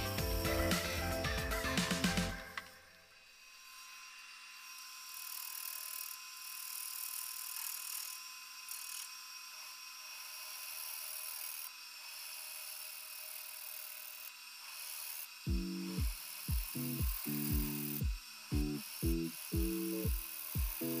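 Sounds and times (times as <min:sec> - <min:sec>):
gouge cutting wood on a lathe: 0:03.4 - 0:21.0.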